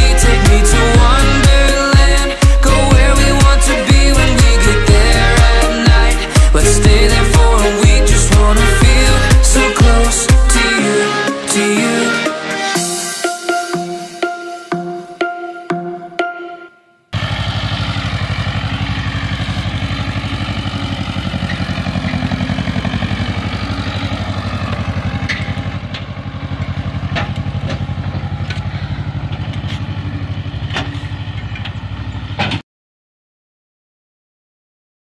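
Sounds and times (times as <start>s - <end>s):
tractor diesel engine running: 0.0s - 13.3s, 17.2s - 32.6s.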